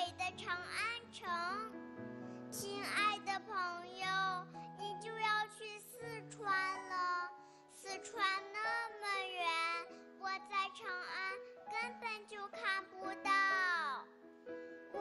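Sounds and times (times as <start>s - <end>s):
child singing: 0.0s - 1.7s, 2.5s - 14.1s.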